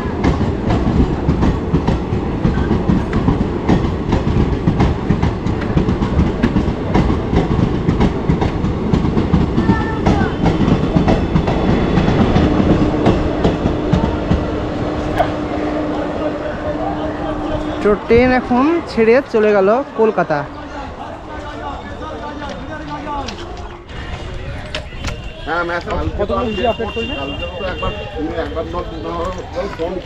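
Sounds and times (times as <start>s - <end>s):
low train rumble: 0.0s - 30.0s
train wheels clattering: 0.0s - 30.0s.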